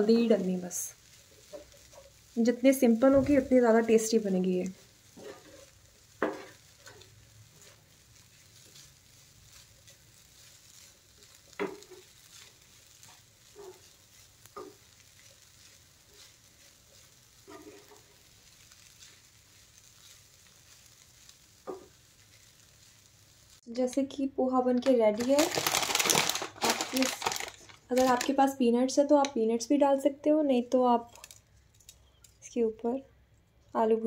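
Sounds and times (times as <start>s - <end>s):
spatula stirring food in a pan: 0.0s - 28.4s
faint sizzle: 0.0s - 34.0s.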